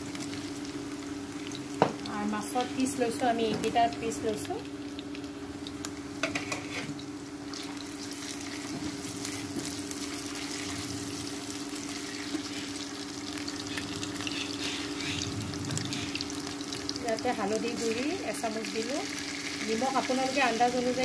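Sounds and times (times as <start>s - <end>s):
induction cooktop hum: 0.0s - 21.0s
potatoes and onions sizzling in oil: 0.0s - 21.0s.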